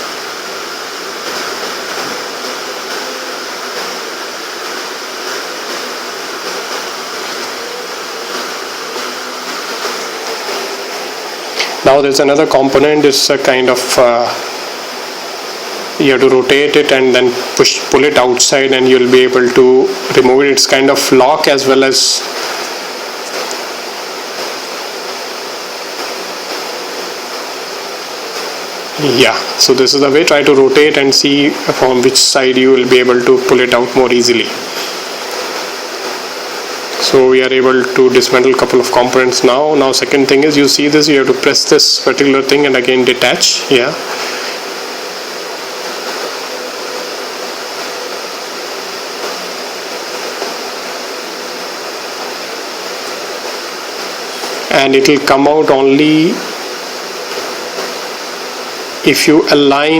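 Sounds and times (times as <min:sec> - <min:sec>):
steady rushing hiss: 0:00.0 - 0:59.9.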